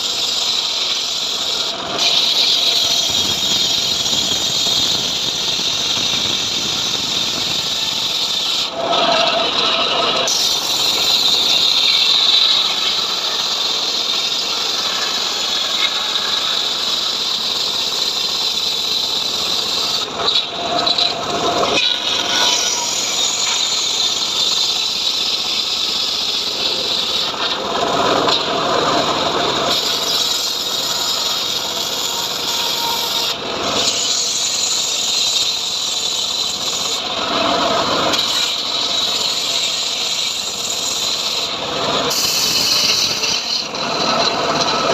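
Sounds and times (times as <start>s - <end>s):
sawmill blade cutting log: 0.0s - 44.9s.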